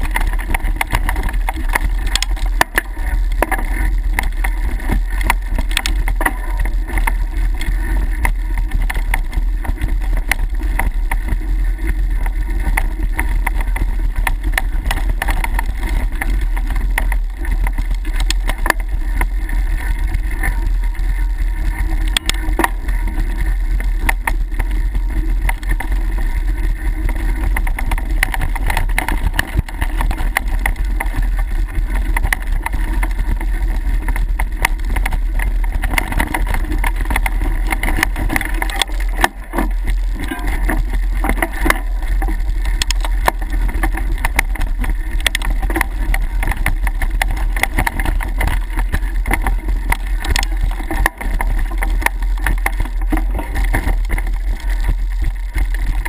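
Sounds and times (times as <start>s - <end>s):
bike rattling and knocking: 0.0s - 56.0s
wind rumble on microphone: 0.0s - 56.0s.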